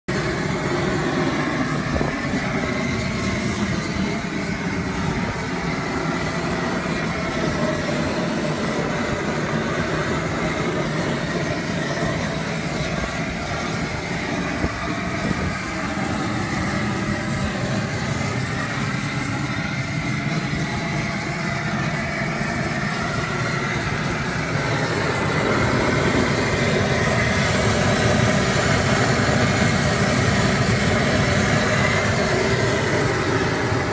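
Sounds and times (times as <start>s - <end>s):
propane burners rushing: 0.1s - 33.9s.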